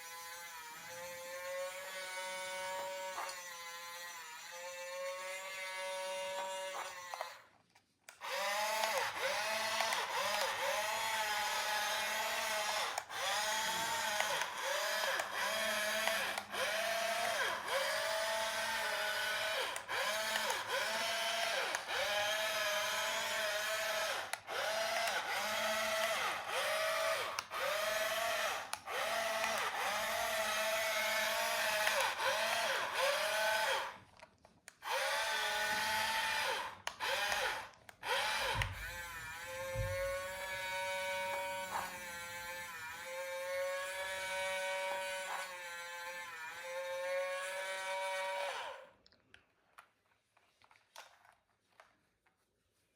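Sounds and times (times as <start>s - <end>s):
toy motor whining: 0.0s - 7.5s, 8.2s - 34.0s, 34.8s - 49.0s.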